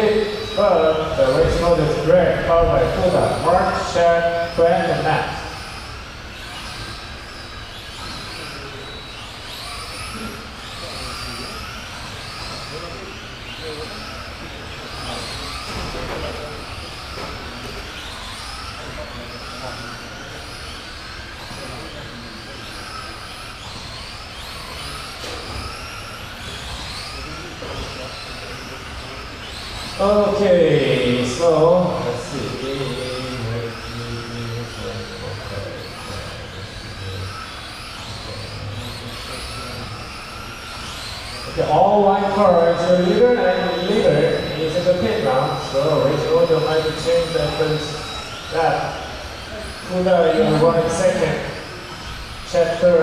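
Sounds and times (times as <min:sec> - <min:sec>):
rc truck motors whining: 0:00.0 - 0:53.0.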